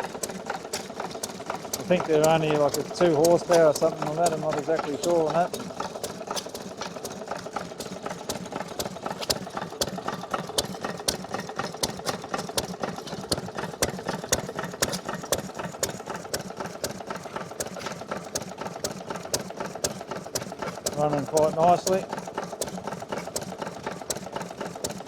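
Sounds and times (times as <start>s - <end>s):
stationary petrol engine running: 0.0s - 25.0s.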